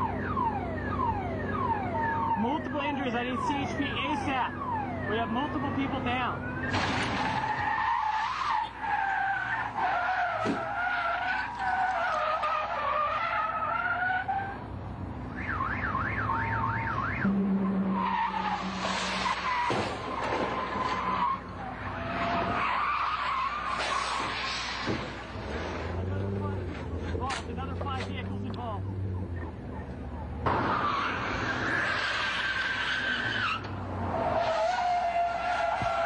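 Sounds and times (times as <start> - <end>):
warbling siren: 0.0 - 14.4, 15.3 - 24.4, 28.8 - 36.0
vehicles colliding: 0.0 - 36.0
car tyres skidding and squealing: 5.6 - 36.0.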